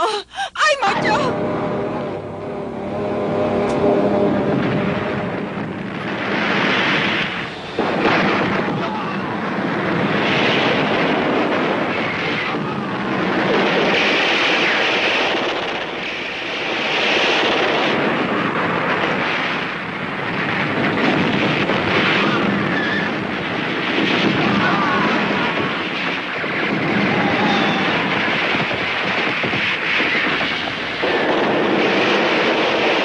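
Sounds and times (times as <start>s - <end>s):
continuous explosions: 0.6s - 33.0s
sudden blast: 0.8s - 33.0s.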